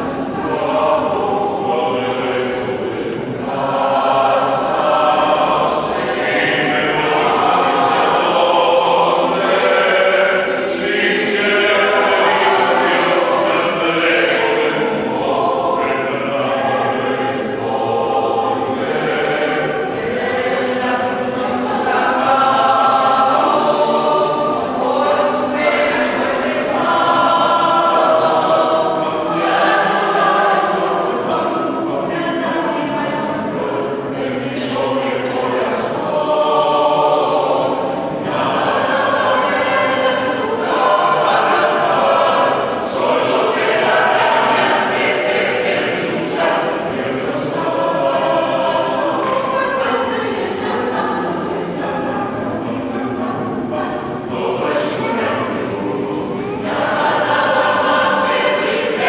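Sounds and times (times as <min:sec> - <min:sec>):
mixed choir singing in harmony: 0:00.0 - 0:59.0.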